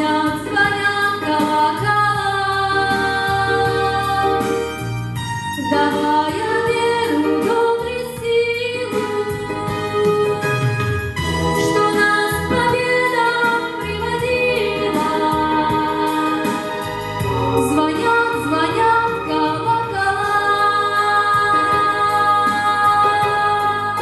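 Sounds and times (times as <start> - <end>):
woman singing: 0.0 - 4.8, 5.6 - 10.4, 11.6 - 16.8, 17.4 - 24.0
instrumental backing: 0.0 - 24.0.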